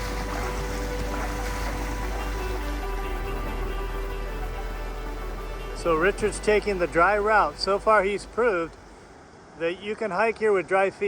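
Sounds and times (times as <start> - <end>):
background music with held notes: 0.0 - 8.9
flowing creek water: 0.0 - 11.0.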